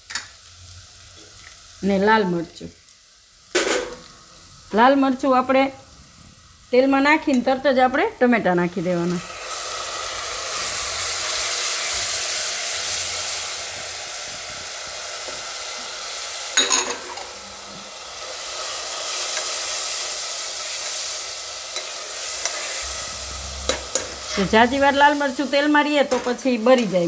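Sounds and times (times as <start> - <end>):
tomato sizzling in hot oil: 0.0 - 27.0.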